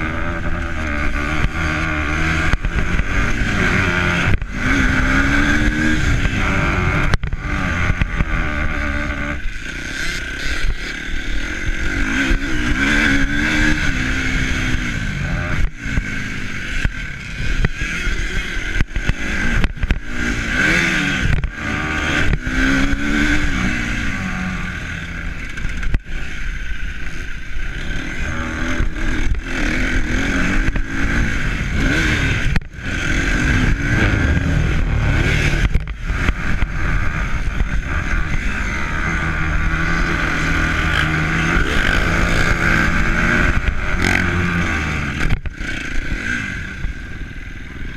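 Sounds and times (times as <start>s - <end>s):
vehicle engine revving: 0.0s - 26.4s, 27.8s - 47.3s.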